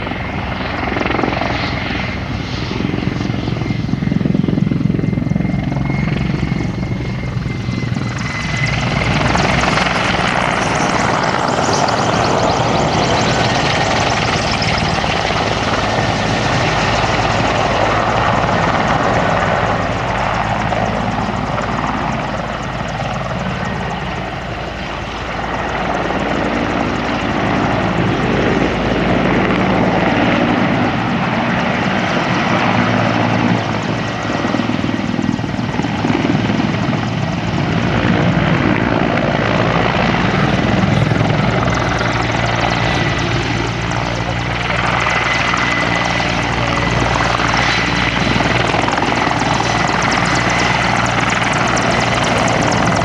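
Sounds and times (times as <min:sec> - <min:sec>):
helicopter main rotor beating: 0:00.0 - 0:53.0
turbine engines whining: 0:00.0 - 0:53.0.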